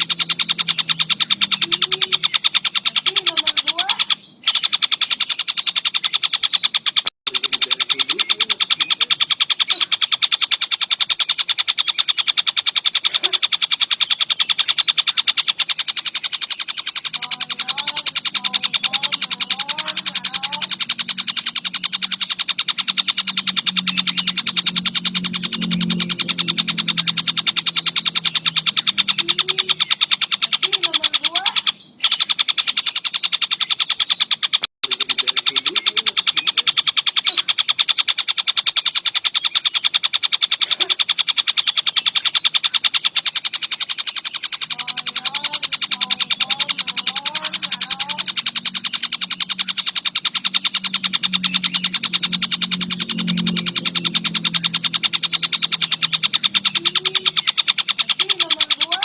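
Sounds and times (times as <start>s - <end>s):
kingfisher chattering call: 0.0s - 59.0s.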